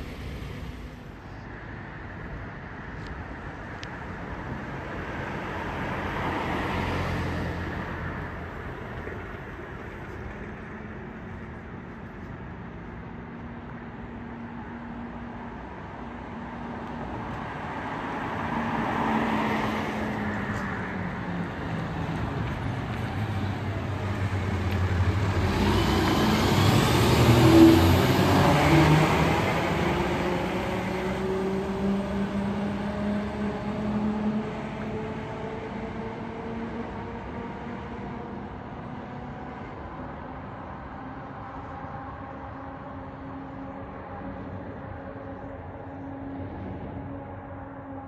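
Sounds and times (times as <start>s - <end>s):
car passing: 0.0s - 2.2s, 4.2s - 12.0s, 14.6s - 48.0s
fire engine driving past: 0.0s - 2.4s, 3.3s - 48.0s.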